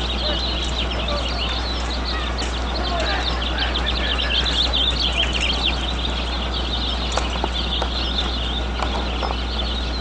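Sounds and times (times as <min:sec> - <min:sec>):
flock of birds chirping: 0:00.0 - 0:10.0
steady low hum: 0:00.0 - 0:10.0.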